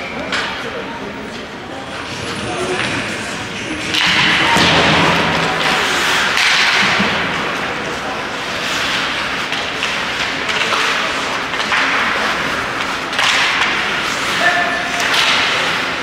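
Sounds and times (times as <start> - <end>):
skates scraping across ice: 1.7 - 16.0.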